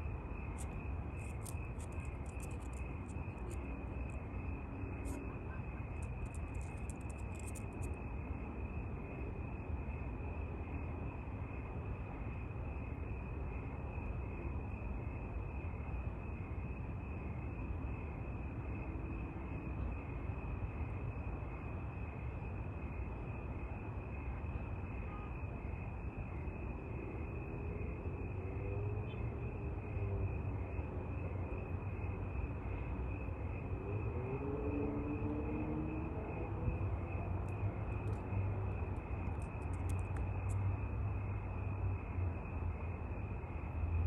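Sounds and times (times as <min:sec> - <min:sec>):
continuous low rumble: 0:00.0 - 0:44.0
crickets chirping: 0:00.0 - 0:44.0.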